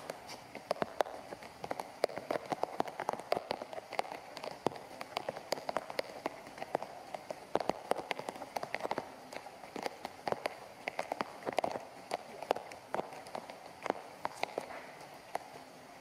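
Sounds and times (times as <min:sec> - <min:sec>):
rain pattering on tiled paving: 0:00.0 - 0:15.7.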